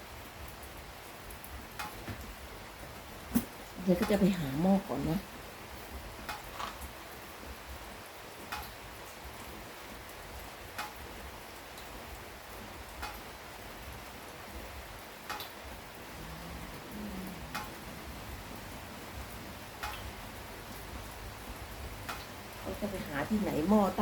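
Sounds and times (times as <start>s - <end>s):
steady rain falling: 0.0s - 24.0s
sharp drip-like ticks: 0.4s - 2.4s, 3.3s - 15.9s, 17.5s - 24.0s.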